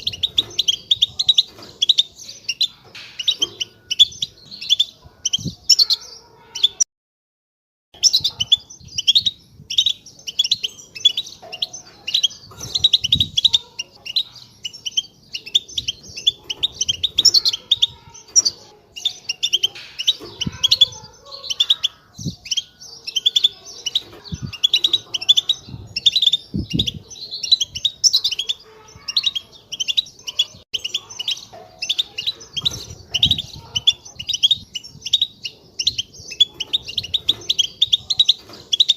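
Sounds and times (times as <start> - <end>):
goldfinch chattering twitter: 0.0 - 6.8, 8.0 - 38.9.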